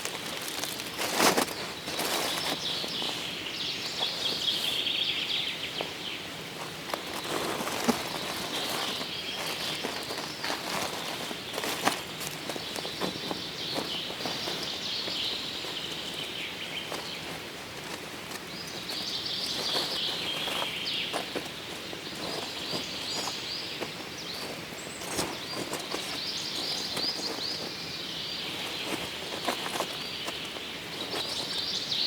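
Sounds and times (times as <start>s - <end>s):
light clicks and rustles: 0.0s - 5.0s, 5.7s - 32.0s
songbird chirping: 0.0s - 32.0s.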